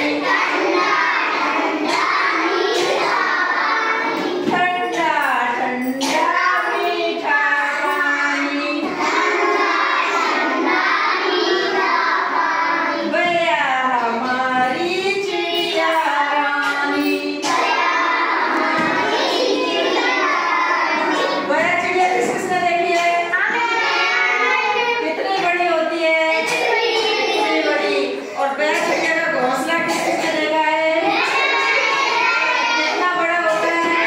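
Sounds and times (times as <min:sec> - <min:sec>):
children singing together: 0:00.0 - 0:34.0.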